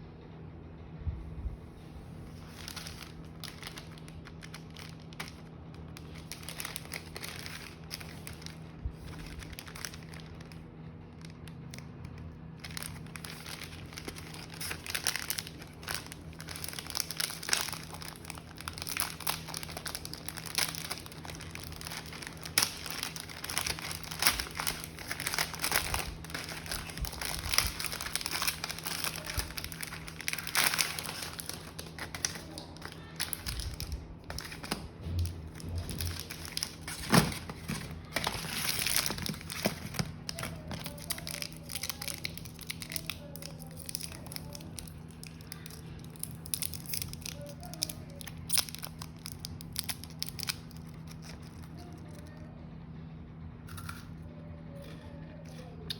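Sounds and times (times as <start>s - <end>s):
plastic wrapper crinkling: 2.2s - 52.3s.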